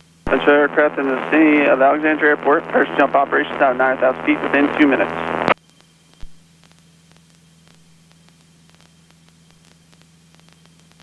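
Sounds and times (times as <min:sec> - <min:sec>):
radio hiss and electrical hum: 0:00.0 - 0:11.0.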